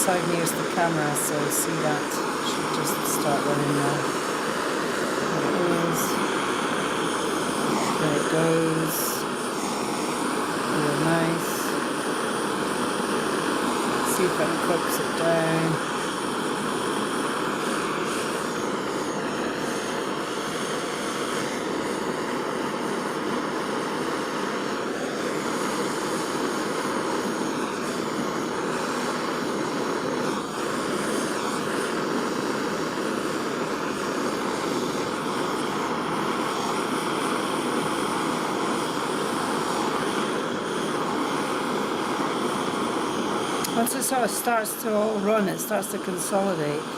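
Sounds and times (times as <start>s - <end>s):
gas torch hissing: 0.0s - 46.9s.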